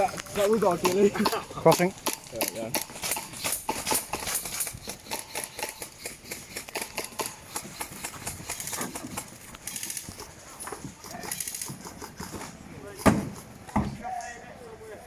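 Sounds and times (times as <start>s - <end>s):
irregular sharp clicks and crackles: 0.0s - 12.5s.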